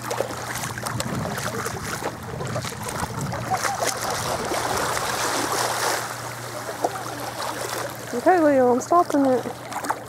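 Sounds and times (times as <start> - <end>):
water splashing from wading steps: 0.0 - 10.0.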